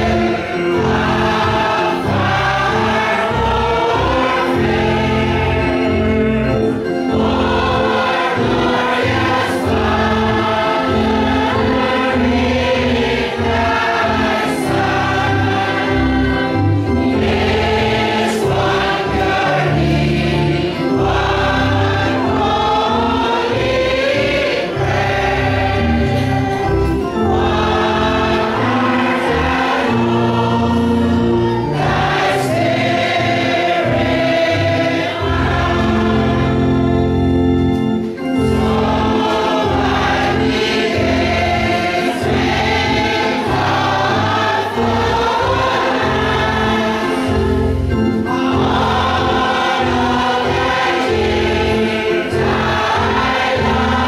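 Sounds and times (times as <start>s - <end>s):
choir singing gospel: 0.0s - 54.0s.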